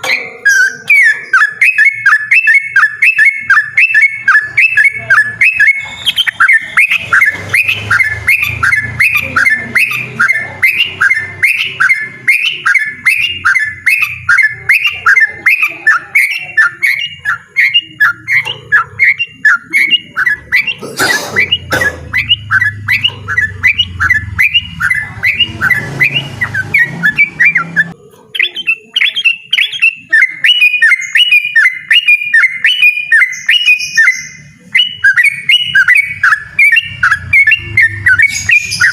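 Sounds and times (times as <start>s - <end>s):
bulbul singing repeated notes: 0.0s - 38.9s.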